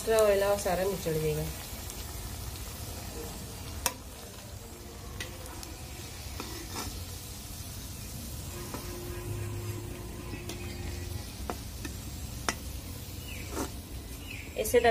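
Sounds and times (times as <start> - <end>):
food deep-frying in oil: 0.0 - 14.9.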